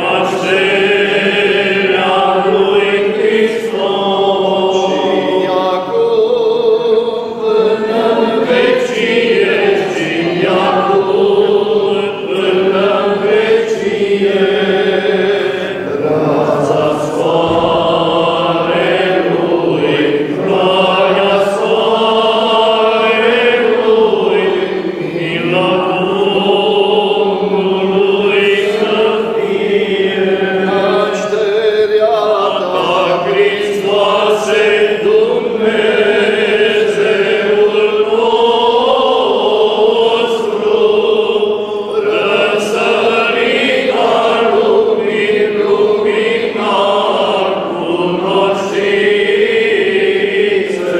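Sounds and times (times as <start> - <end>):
men's voices chanting a hymn: 0.0 - 50.9.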